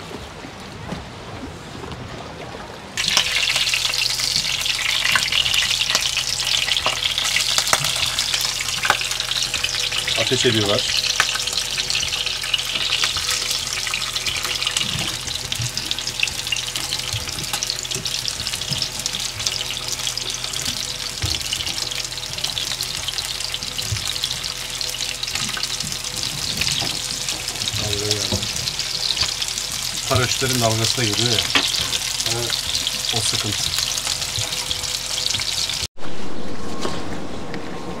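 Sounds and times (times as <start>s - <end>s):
fish sizzling in hot oil: 3.0s - 35.9s.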